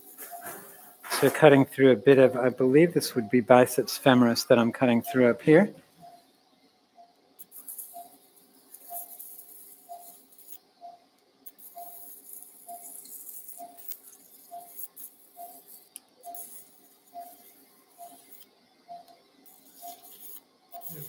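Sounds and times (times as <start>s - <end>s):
electrosurgical tone with crackling hiss: 0.0s - 21.0s
patient monitor pulse beeps: 0.2s - 1.0s, 1.6s - 6.3s, 7.0s - 8.2s, 8.8s - 21.0s.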